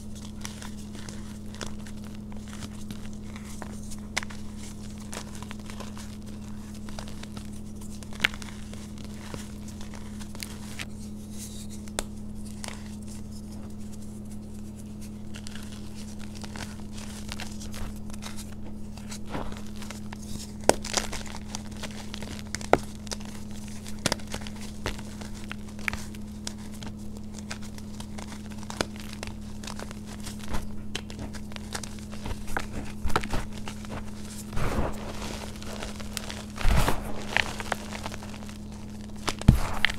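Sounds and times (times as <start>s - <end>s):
powder blocks crunching and crackling: 0.1s - 10.9s, 15.3s - 39.9s.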